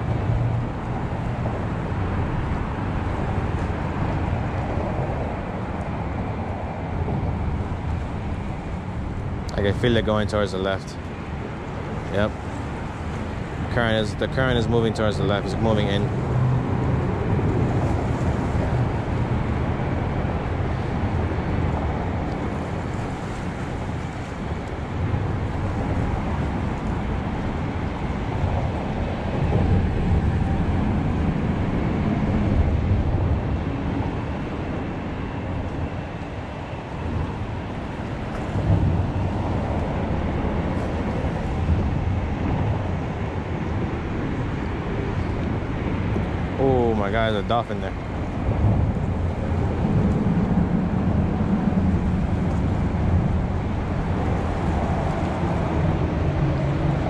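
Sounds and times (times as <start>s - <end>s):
wind on microphone: 0.0s - 57.0s.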